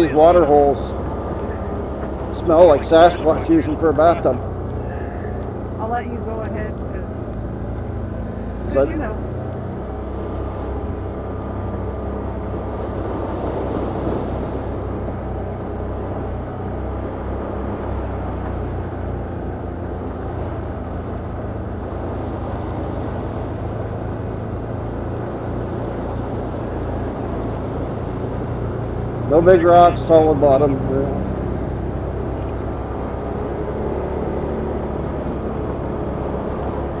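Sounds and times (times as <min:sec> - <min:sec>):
quad engine running: 0:00.0 - 0:37.0.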